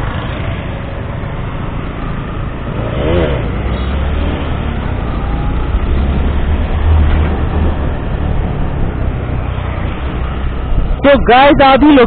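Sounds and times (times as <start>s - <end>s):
motorcycle engine cruising: 0.0s - 11.9s.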